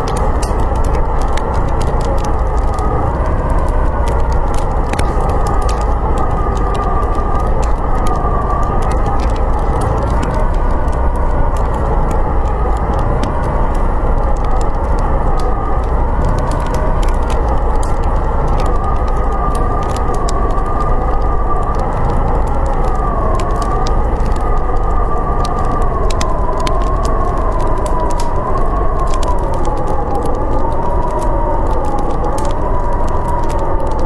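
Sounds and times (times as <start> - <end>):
howling blizzard wind: 0.0 - 34.0
wood fire crackling: 0.0 - 34.0.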